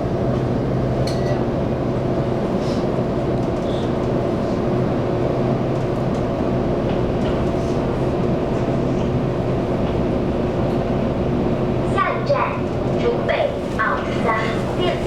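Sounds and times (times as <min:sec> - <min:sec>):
train interior rumble and hum: 0:00.0 - 0:15.0.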